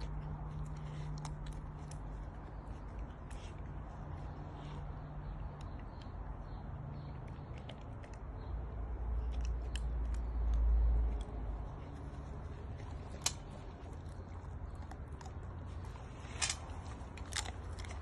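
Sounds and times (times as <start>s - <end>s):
dog chewing with wet crunches: 0.0s - 18.0s.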